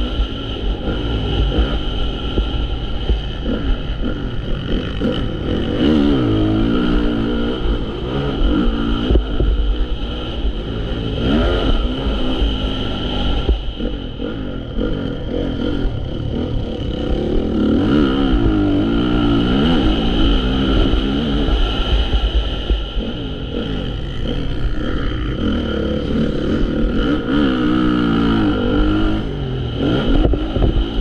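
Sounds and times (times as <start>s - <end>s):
motorcycle engine revving: 0.0s - 31.0s
steady low rumble: 0.0s - 31.0s.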